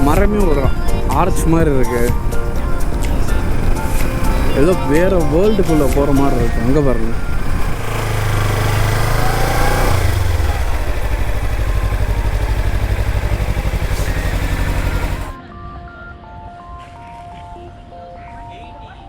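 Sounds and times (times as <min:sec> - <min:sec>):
faint background music: 0:00.0 - 0:07.8, 0:09.9 - 0:19.0
motorcycle engine running: 0:00.0 - 0:15.4.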